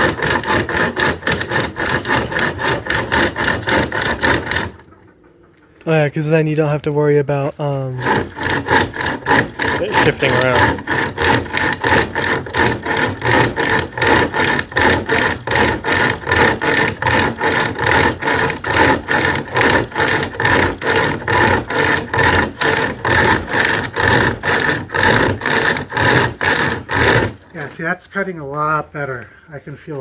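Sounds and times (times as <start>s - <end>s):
hand chainsaw cutting wood: 0.0s - 5.1s, 5.9s - 28.8s.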